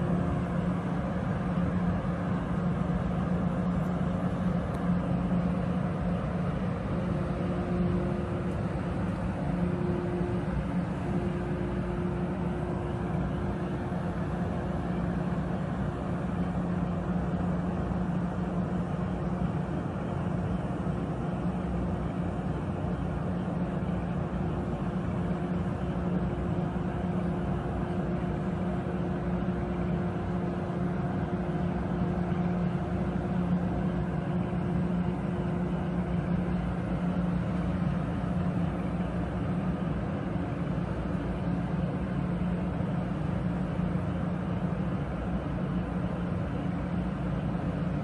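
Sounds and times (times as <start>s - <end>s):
electric train equipment humming: 0.0s - 48.0s.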